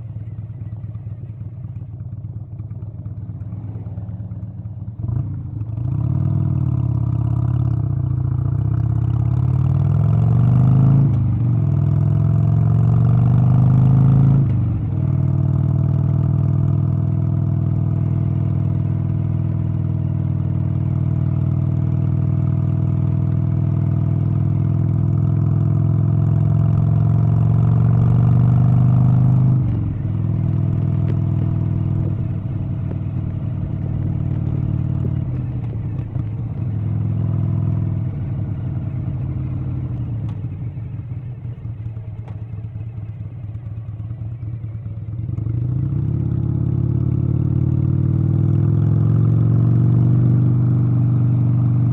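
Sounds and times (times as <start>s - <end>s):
vehicle engine accelerating: 5.0s - 51.9s.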